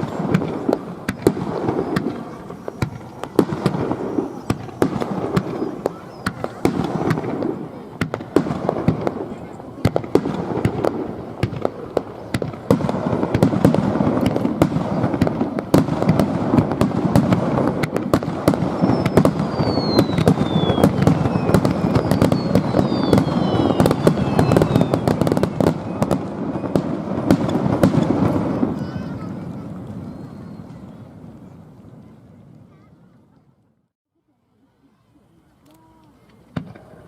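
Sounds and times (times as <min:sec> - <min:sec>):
falling firework whistles: 0:00.0 - 0:09.3, 0:09.9 - 0:31.6
fireworks cracks and bangs: 0:00.0 - 0:32.9, 0:36.3 - 0:37.0.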